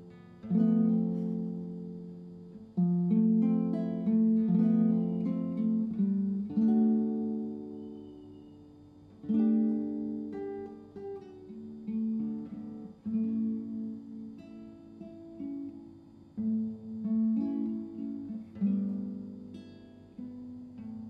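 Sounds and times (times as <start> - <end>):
acoustic guitar chords strummed: 0.0 - 21.0.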